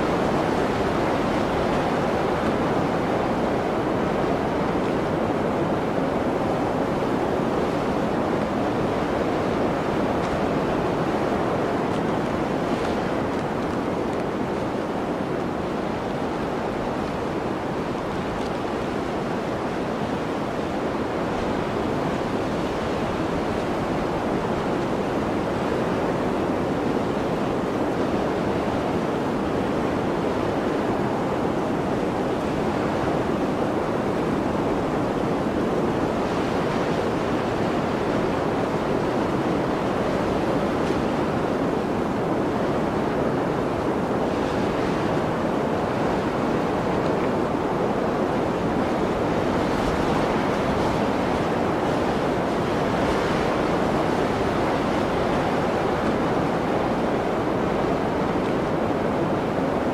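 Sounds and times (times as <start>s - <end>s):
blizzard wind blowing: 0.0s - 59.9s.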